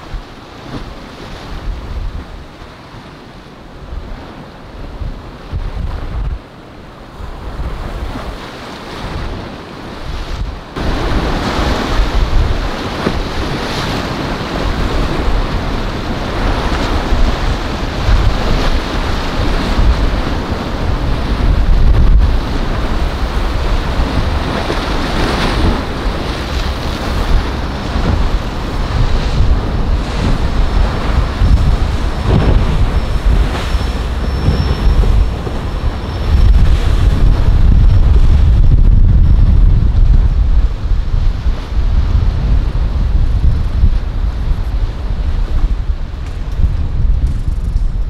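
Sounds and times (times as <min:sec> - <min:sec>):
waves breaking: 0:00.0 - 0:48.0
wind buffeting microphone: 0:00.0 - 0:48.0.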